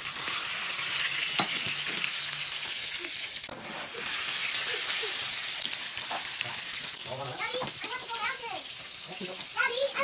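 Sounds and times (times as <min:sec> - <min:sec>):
steak sizzling in frying pan: 0:00.0 - 0:10.0.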